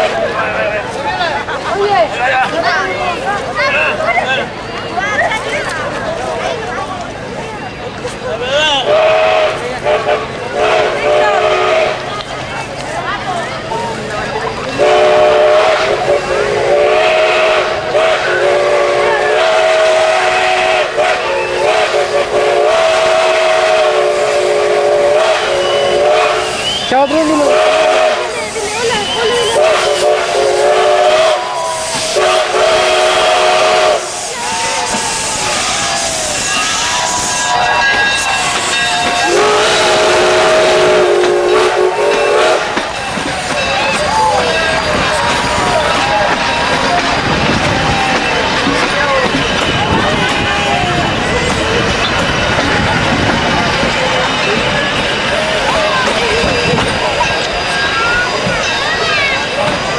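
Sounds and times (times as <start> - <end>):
steam locomotive whistle: 8.8 - 12.2, 14.7 - 59.9
steam hissing: 8.9 - 59.9.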